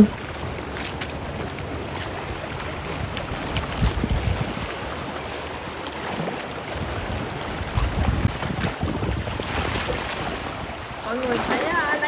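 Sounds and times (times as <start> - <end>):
sea waves washing over rocks: 0.0 - 12.0
wind noise on microphone: 2.0 - 12.0.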